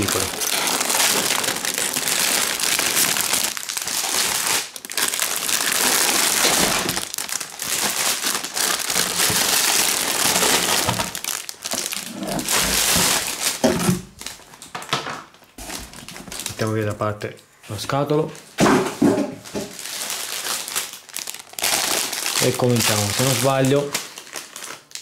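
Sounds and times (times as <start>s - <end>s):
cellophane crinkling: 0.0s - 18.6s, 19.4s - 25.0s.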